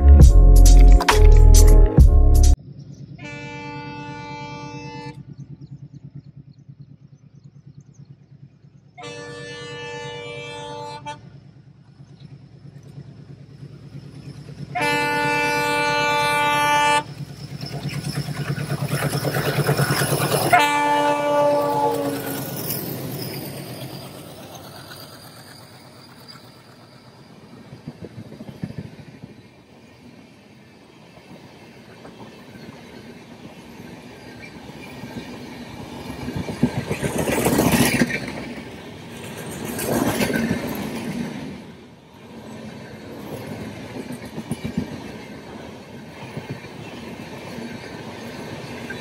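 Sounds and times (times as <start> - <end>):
diesel locomotives: 0.0 - 49.0
train wheels rumbling on rails: 0.0 - 49.0.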